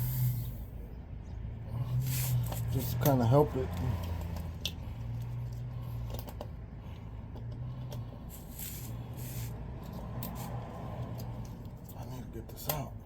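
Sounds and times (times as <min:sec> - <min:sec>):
hands clicking and scratching at valve: 0:02.1 - 0:12.8.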